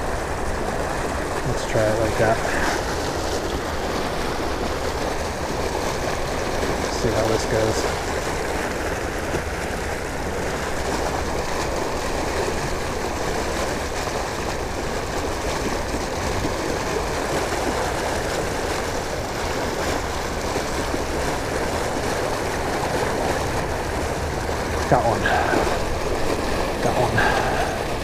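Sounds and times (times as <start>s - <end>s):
water pouring from a pipe: 0.0s - 28.0s.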